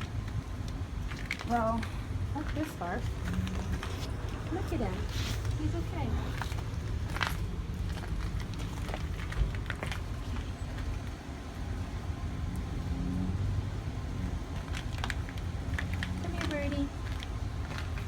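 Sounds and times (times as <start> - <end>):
light clicks and rustles: 0.0 - 11.2, 14.4 - 18.0
vehicle engine rumbling: 0.0 - 18.0.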